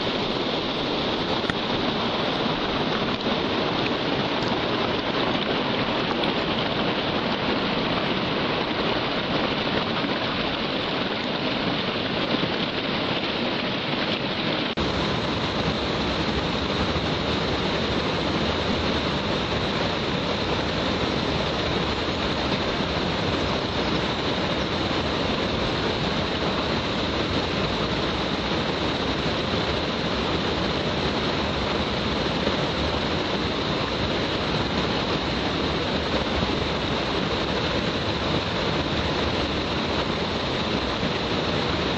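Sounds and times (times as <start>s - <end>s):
waterfall pouring: 0.0s - 41.9s.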